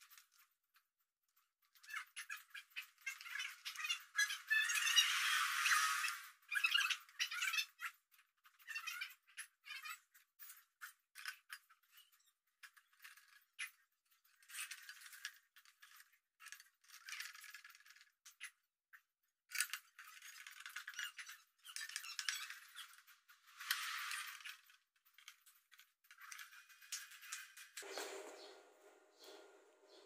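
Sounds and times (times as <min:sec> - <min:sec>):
metal parts clicking and scraping: 0:00.0 - 0:18.6, 0:19.5 - 0:28.5.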